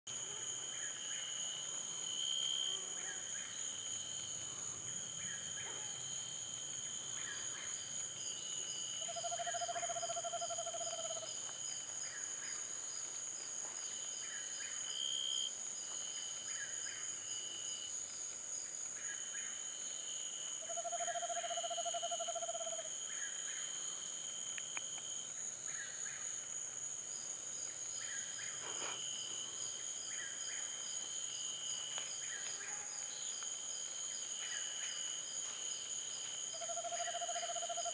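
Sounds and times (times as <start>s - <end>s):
high-pitched insect chorus: 0.1s - 37.9s.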